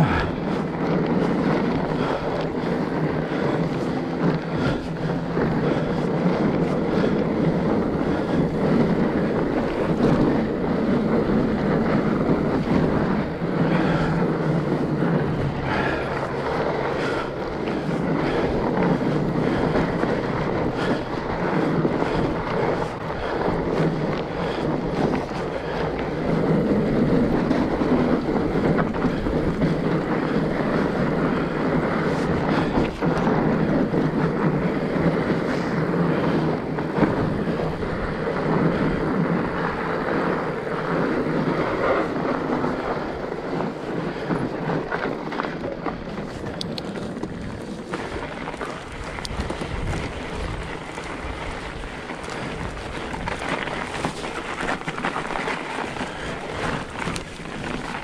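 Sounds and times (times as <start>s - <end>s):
bike tyres rolling over ground: 0.0s - 58.0s
wind on microphone: 0.0s - 58.0s.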